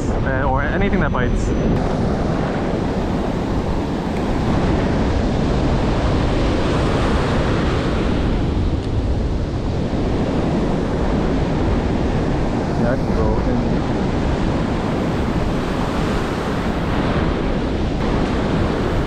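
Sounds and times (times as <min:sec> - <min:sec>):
wind buffeting microphone: 0:00.0 - 0:19.0
ocean surf breaking on sand: 0:01.8 - 0:19.0.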